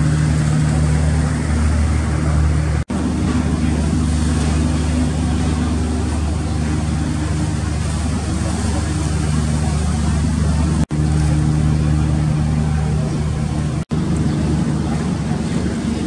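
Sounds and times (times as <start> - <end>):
ship engines droning: 0.0 - 16.0
water noise: 0.0 - 16.0
wind: 0.0 - 16.0.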